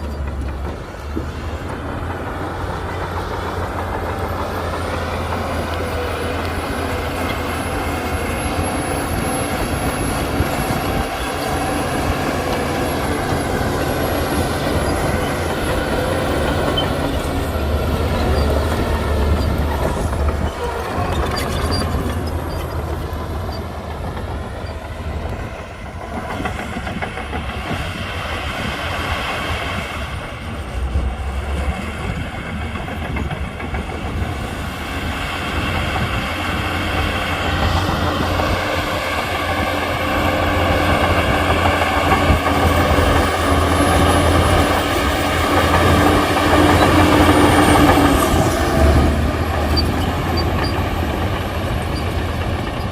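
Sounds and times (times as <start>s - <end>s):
bulldozer diesel engine running: 0.0s - 52.9s
crawler tracks clanking: 0.0s - 52.9s.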